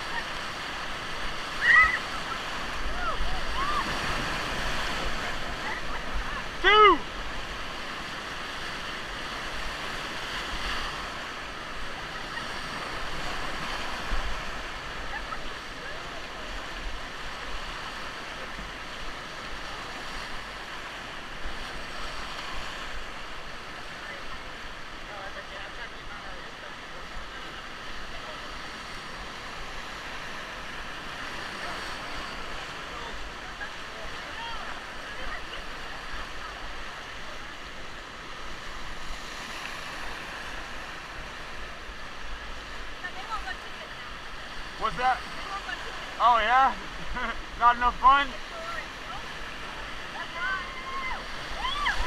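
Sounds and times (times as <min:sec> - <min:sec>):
whitewater rushing: 0:00.0 - 0:52.0.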